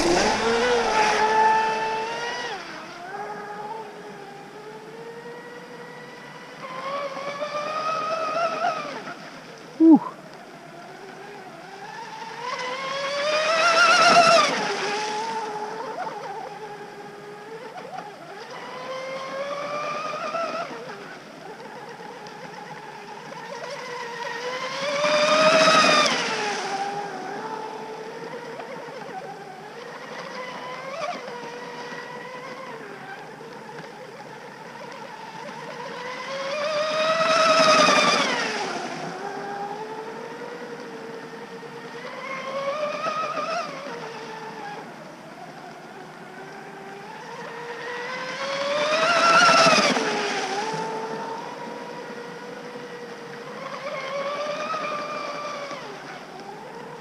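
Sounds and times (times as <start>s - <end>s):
rc boat motor whining: 0.0s - 57.0s.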